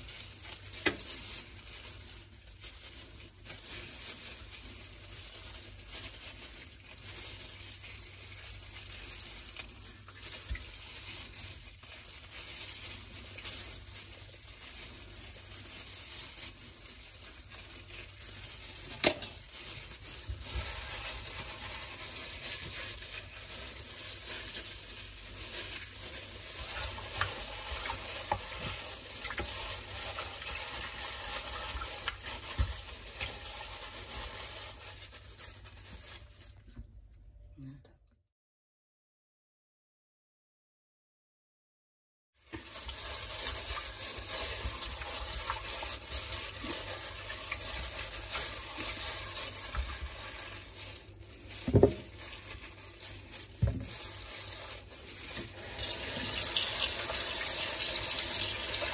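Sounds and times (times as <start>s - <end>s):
wet handling of raw chicken: 0.0s - 37.3s, 42.4s - 58.9s.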